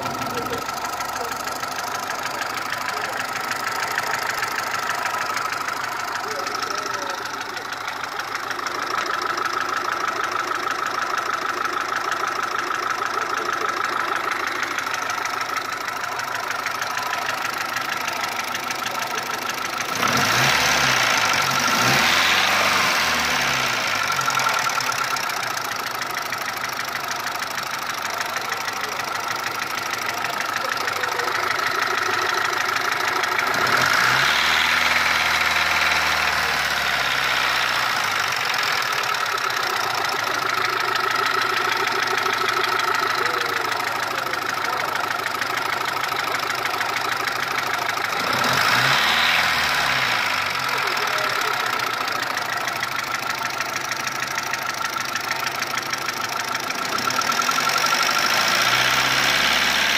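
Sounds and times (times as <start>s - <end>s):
car engine idling with ticking: 0.0s - 59.9s
engine revving: 0.0s - 59.9s.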